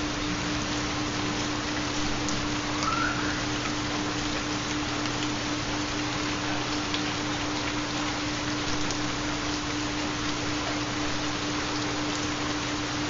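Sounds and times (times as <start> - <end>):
constant pure hum tone: 0.0 - 13.0
steady rainfall: 0.0 - 13.0.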